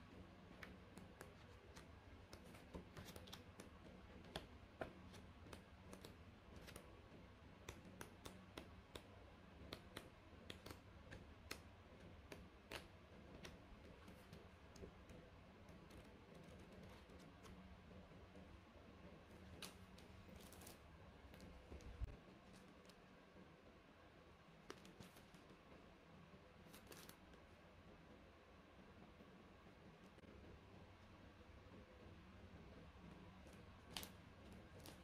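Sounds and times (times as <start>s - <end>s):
low room hum: 0.0s - 35.0s.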